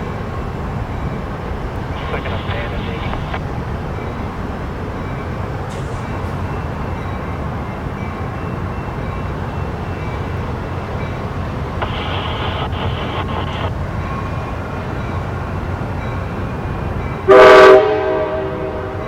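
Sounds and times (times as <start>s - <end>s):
train rumbling by: 0.0s - 19.0s.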